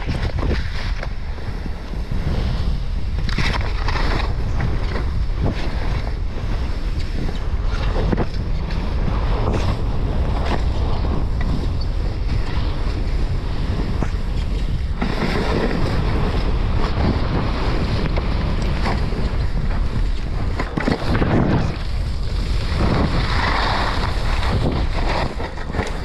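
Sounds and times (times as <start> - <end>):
skis sliding on snow: 0.0 - 26.0
wind buffeting microphone: 0.0 - 26.0.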